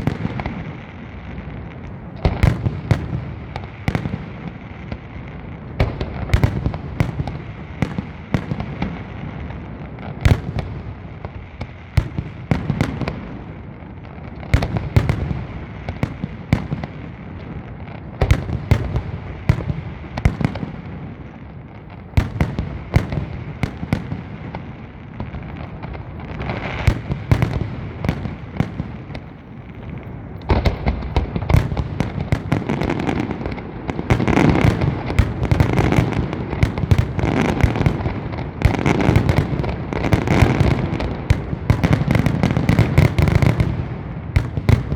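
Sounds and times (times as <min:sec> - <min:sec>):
fireworks rumble and crackle: 0:00.0 - 0:44.9
fireworks sharp bangs: 0:00.0 - 0:44.9.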